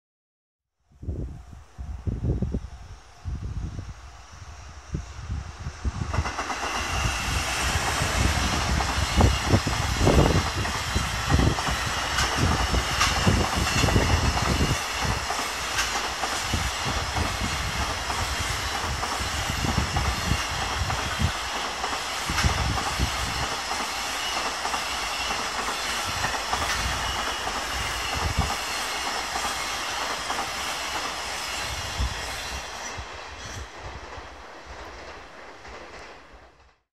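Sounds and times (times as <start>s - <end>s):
freight train passing: 0.8s - 36.9s.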